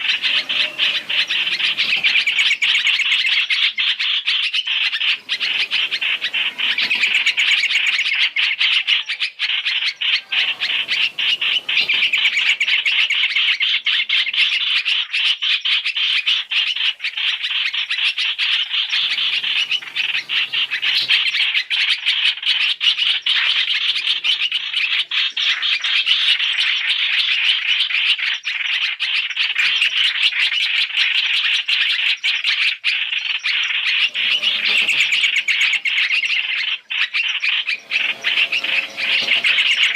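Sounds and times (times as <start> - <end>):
bulbuls chattering: 0.0 - 27.6, 33.2 - 39.9.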